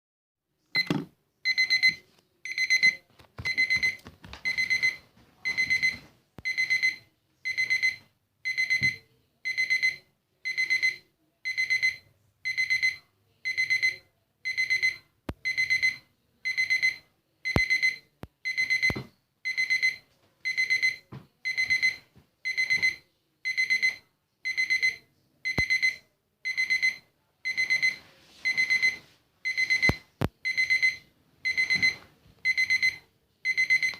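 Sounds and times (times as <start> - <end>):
kitchen timer alarm beeping: 0.8 - 33.9.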